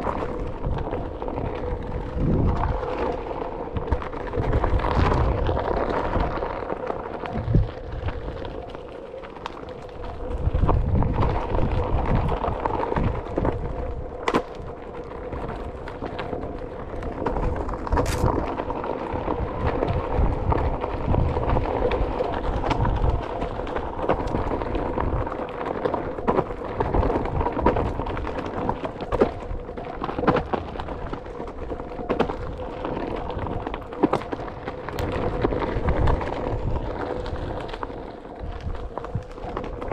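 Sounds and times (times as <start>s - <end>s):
tyre rumbling over dirt: 0.0s - 39.9s
wind buffeting microphone: 0.0s - 39.9s.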